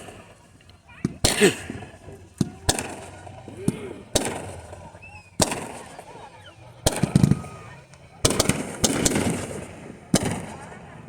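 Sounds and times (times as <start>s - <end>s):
crackling fireworks: 0.0s - 11.0s
fireworks bangs: 0.0s - 11.0s.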